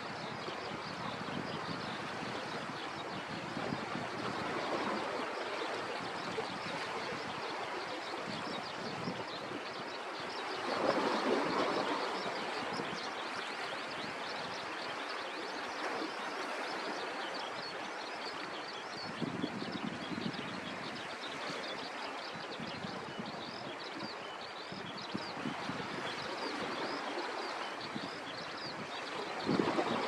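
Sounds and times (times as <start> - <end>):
sea waves washing on shore: 0.0 - 30.0.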